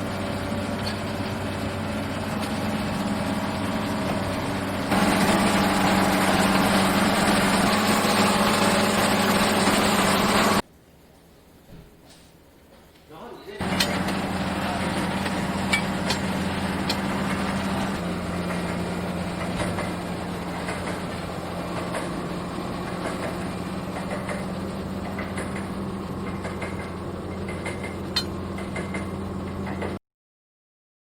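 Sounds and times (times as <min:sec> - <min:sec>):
diesel engine idling: 0:00.0 - 0:10.6, 0:13.6 - 0:29.6.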